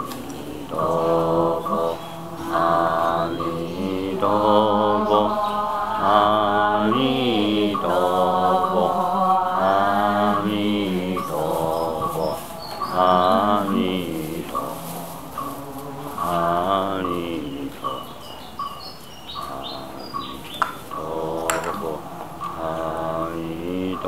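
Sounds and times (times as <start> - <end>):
voices chanting: 0.0 - 24.0.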